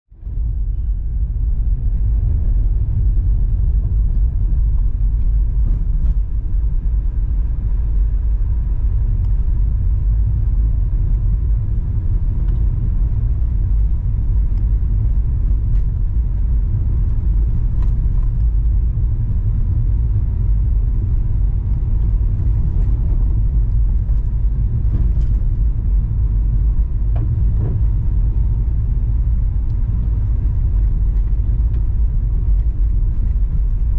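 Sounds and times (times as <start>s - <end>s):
car engine and tyres rumbling: 0.0s - 33.9s.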